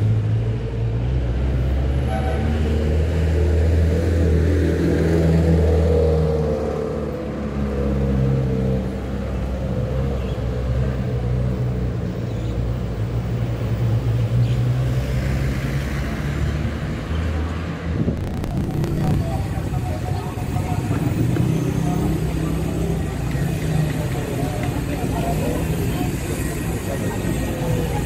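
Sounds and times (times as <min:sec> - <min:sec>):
vehicle engines on road: 0:00.0 - 0:28.0.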